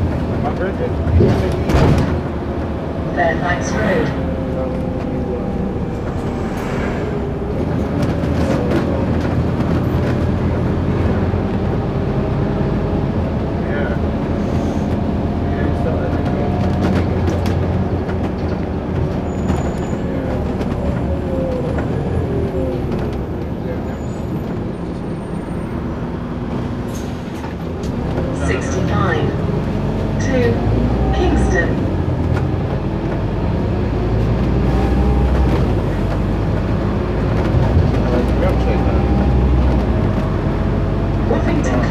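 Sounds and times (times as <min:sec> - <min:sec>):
bus body rattling: 0:00.0 - 0:41.9
bus engine drone: 0:00.0 - 0:41.9
road noise: 0:00.0 - 0:41.9.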